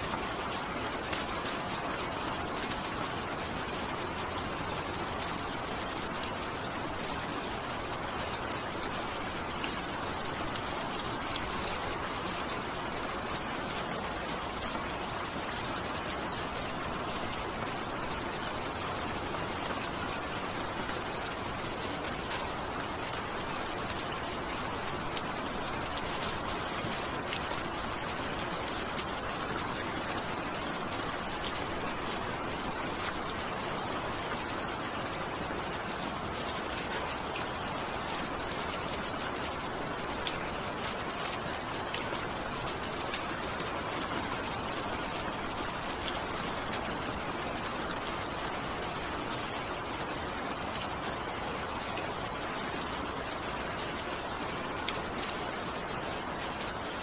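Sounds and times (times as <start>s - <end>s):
raindrops ticking: 0.0s - 57.0s
steady rain hiss: 0.0s - 57.0s.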